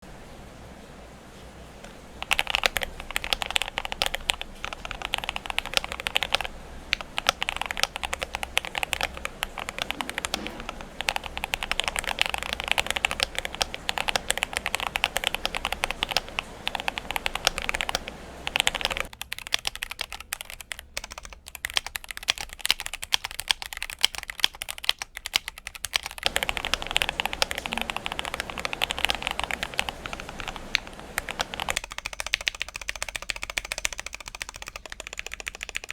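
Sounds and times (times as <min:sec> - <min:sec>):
mechanical keyboard typing: 0:01.8 - 0:35.9.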